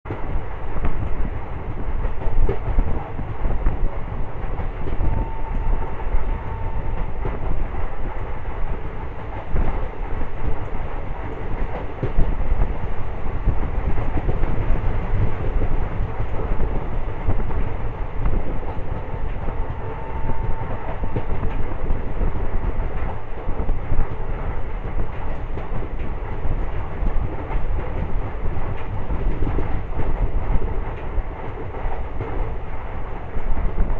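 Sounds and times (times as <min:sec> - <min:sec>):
train rumble: 0:00.1 - 0:33.9.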